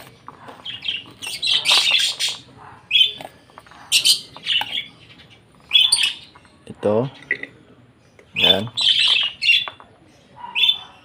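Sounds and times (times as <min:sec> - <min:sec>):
lovebirds calling shrilly: 0:00.0 - 0:07.4, 0:08.2 - 0:11.0.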